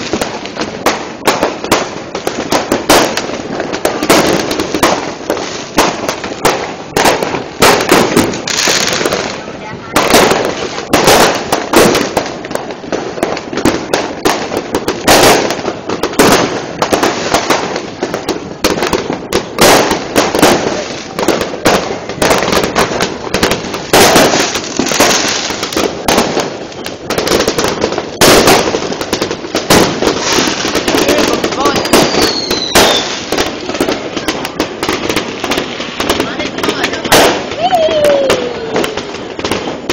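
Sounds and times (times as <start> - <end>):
fireworks bangs and pops: 0.0 - 39.9.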